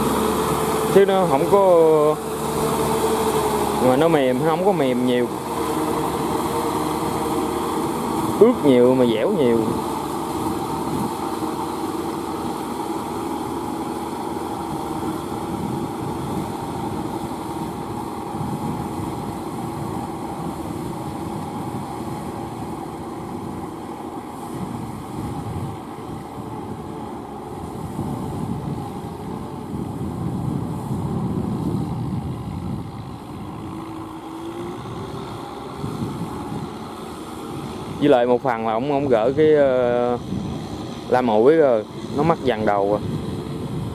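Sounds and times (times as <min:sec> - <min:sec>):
diesel tractor engine under load: 0:00.0 - 0:43.9.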